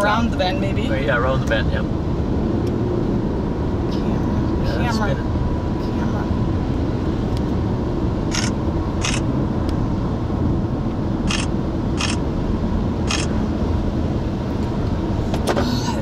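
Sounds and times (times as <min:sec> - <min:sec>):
car driving interior noise: 0:00.0 - 0:16.0.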